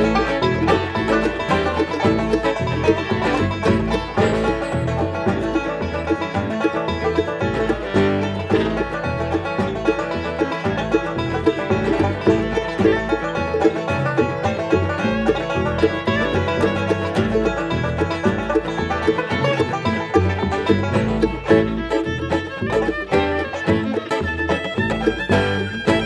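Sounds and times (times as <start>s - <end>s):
bass notes: 0.0s - 26.0s
picked string notes: 0.0s - 26.0s.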